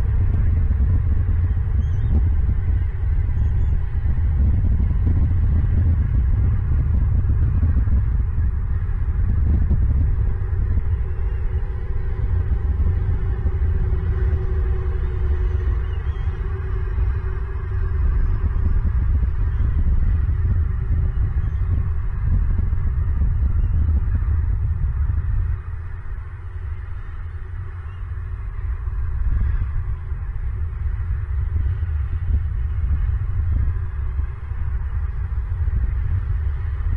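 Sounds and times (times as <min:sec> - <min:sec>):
faint hum: 0:00.0 - 0:36.9
steady low rumble: 0:00.0 - 0:36.9.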